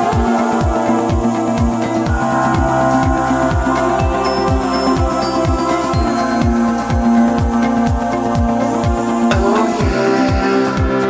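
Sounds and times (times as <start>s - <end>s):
electronic dance music: 0.0s - 11.0s
held synth chords: 0.0s - 11.0s
kick drum: 0.0s - 11.0s.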